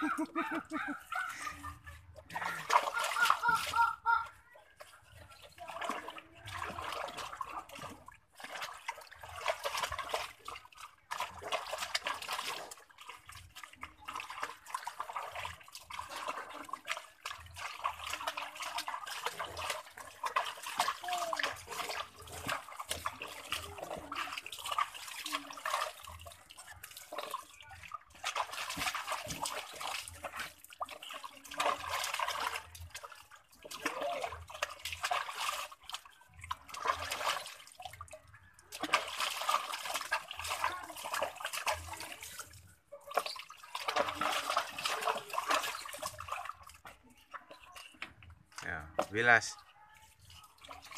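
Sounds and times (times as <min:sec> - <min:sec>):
water splashing in plastic tub: 0:00.0 - 0:50.9.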